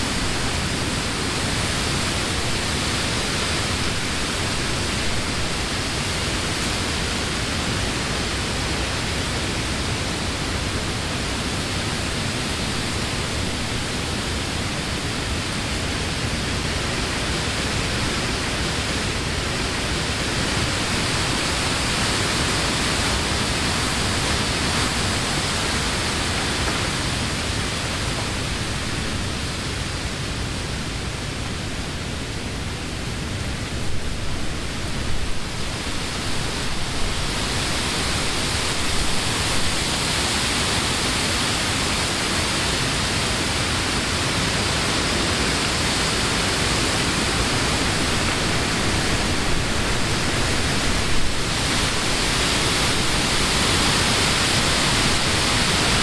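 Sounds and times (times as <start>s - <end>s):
wind blowing through trees: 0.0s - 56.0s.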